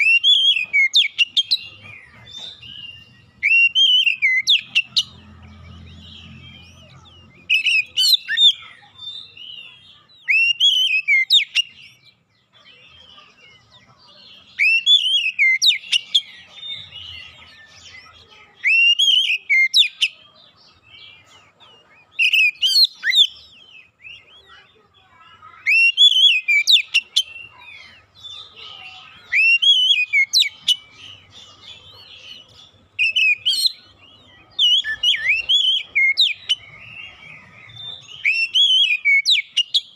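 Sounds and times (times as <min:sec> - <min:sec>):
bird whistled song phrases: 0:00.0 - 0:05.2, 0:06.0 - 0:12.1, 0:14.5 - 0:20.2, 0:22.1 - 0:39.9
soft bird chattering: 0:00.0 - 0:39.9.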